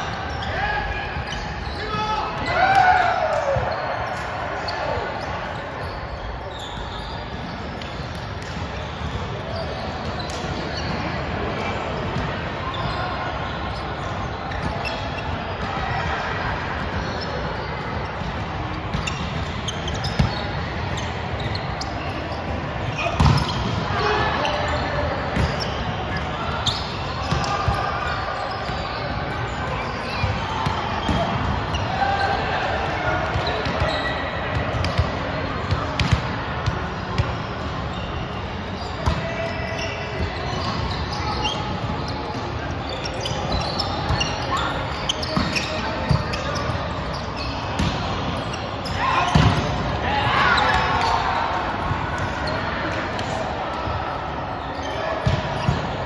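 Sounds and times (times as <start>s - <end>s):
reverberant gym hall noise: 0.0s - 56.0s.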